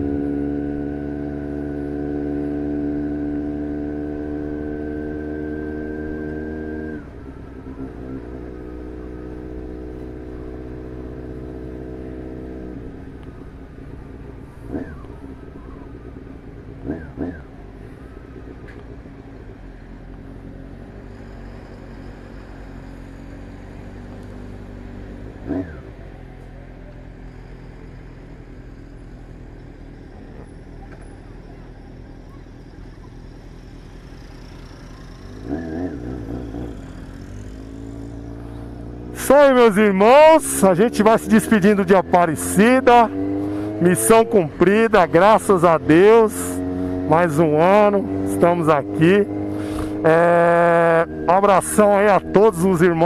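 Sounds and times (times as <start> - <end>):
motorcycle engine revving: 0.0 - 53.0
motorcycle engine running: 0.0 - 53.0.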